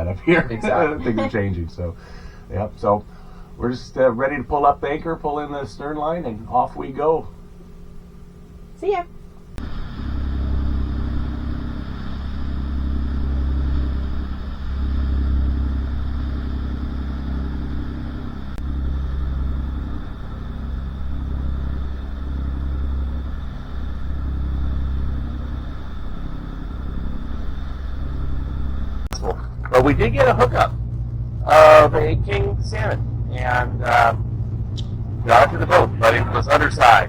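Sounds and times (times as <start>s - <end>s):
constant hiss: 0.0s - 37.0s
motor boat engine droning: 0.0s - 37.0s.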